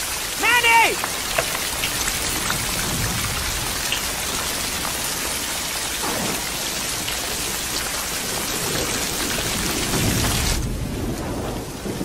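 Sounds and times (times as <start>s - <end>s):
steady rain pouring: 0.0s - 12.0s.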